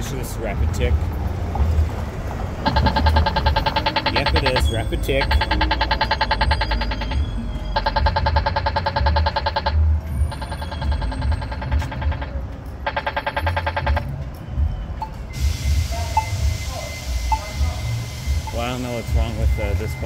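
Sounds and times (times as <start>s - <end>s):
low traffic rumble: 0.0s - 20.0s
fast electronic ticking: 2.6s - 14.2s, 14.9s - 20.0s.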